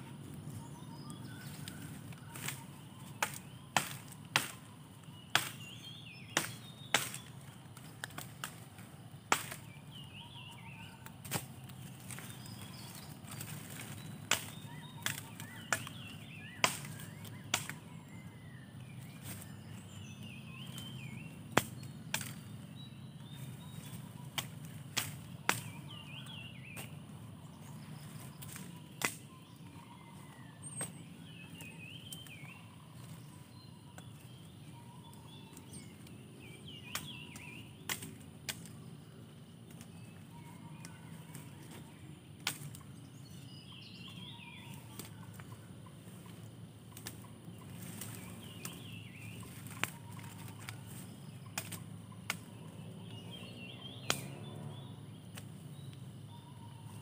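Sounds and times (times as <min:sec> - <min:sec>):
birds chirping: 0:00.0 - 0:57.0
machete chopping stems: 0:01.2 - 0:17.9, 0:19.0 - 0:39.0, 0:40.8 - 0:43.4, 0:44.0 - 0:45.6, 0:46.9 - 0:55.9.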